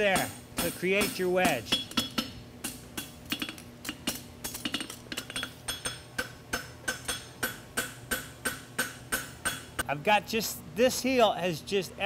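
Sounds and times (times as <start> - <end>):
hammer striking metal on anvil: 0.0 - 9.8.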